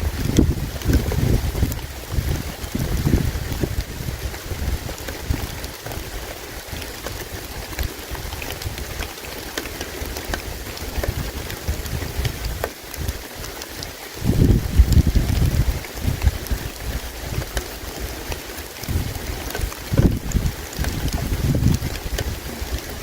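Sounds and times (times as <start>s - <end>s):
campfire crackling: 0.0s - 23.0s
river water flowing: 0.0s - 23.0s.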